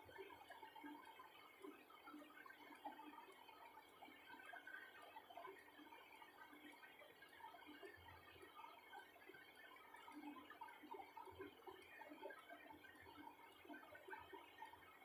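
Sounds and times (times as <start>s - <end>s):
faint small ticks and rustles: 0.0s - 15.0s.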